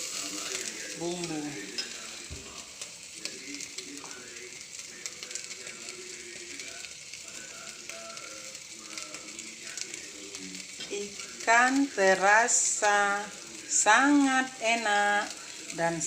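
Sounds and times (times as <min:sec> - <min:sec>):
fish sizzling on a grill: 0:00.0 - 0:16.0.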